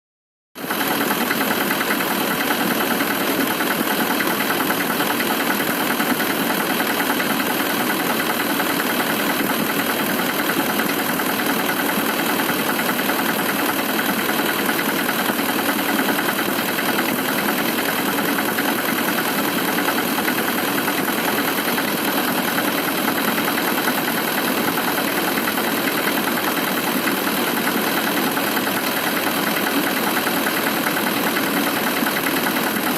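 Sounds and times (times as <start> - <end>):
diesel engine idling with knock: 0.6 - 32.9.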